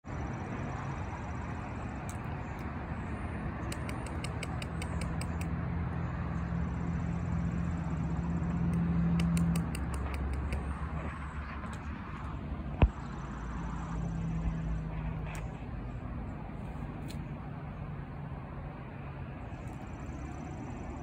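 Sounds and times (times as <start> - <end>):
low motor-like hum: 0.1 - 21.0.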